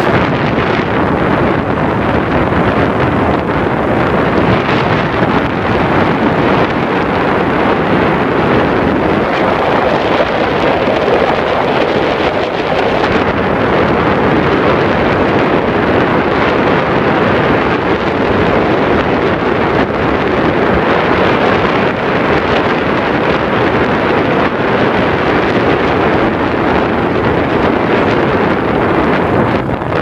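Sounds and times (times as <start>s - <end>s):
air rushing over microphone: 0.0s - 30.0s.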